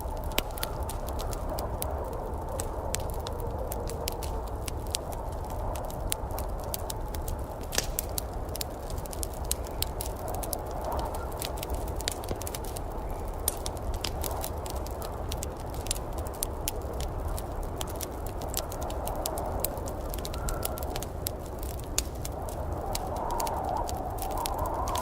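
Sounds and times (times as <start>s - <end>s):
fire pops and snaps: 0.0s - 25.0s
storm rumble: 0.0s - 25.0s
wood fire crackling: 0.0s - 25.0s.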